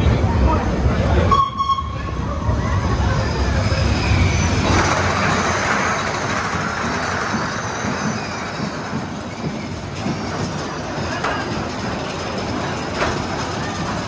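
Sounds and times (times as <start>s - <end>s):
roller coaster low rumble: 0.0s - 14.0s
wheels clattering on rail: 0.0s - 14.0s.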